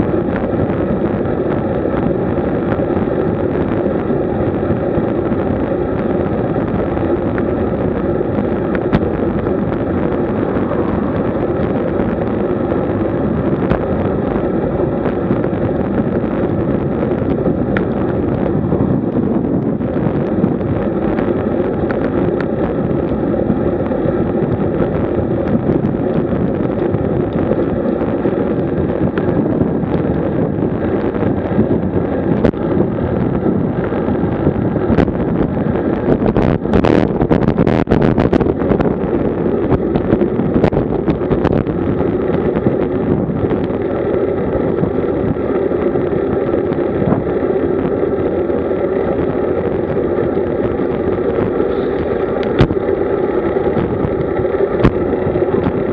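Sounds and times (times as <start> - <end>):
tyre noise on rough asphalt: 0.0 - 55.9
wind rushing over microphone: 0.0 - 55.9.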